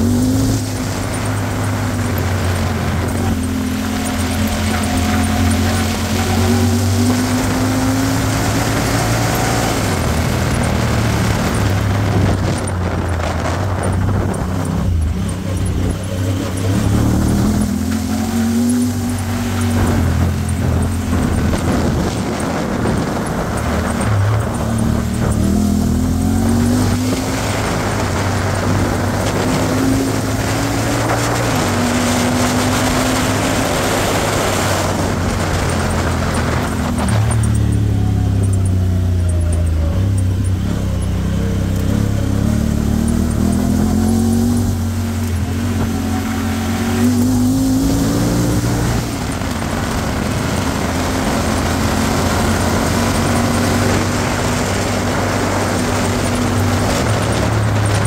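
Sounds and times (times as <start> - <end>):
engine revving while driving: 0.0 - 58.0
rushing tyres and wind: 0.0 - 58.0.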